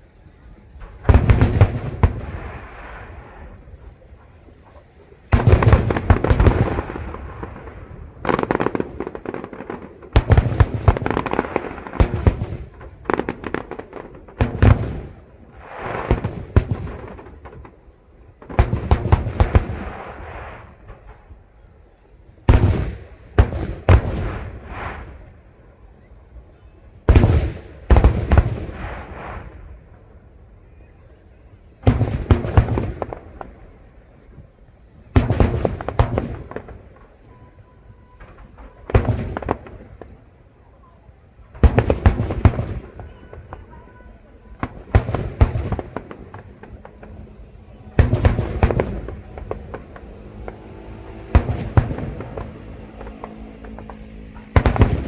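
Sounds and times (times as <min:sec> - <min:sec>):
fireworks bursts with rumble: 0:00.0 - 0:55.0.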